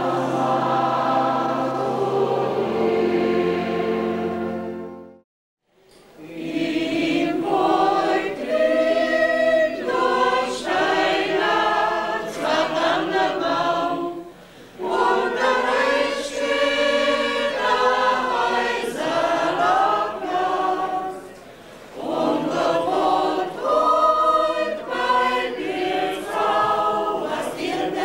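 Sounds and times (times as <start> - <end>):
mixed choir singing: 0.0 - 5.2, 6.1 - 28.0.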